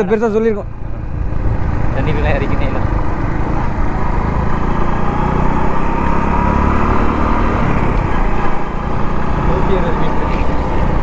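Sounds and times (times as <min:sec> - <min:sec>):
road and wind noise: 0:00.0 - 0:11.0
motorcycle engine running: 0:00.1 - 0:11.0.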